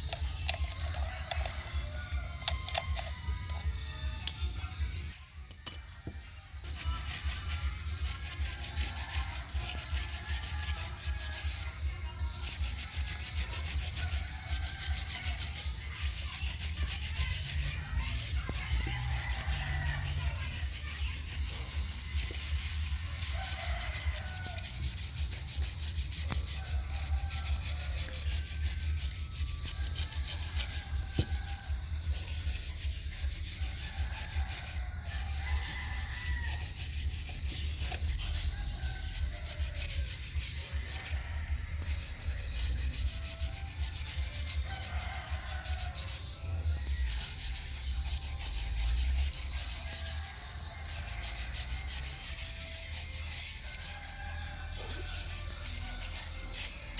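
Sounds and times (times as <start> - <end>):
rapid sanding: 6.6 - 54.4, 55.1 - 56.9.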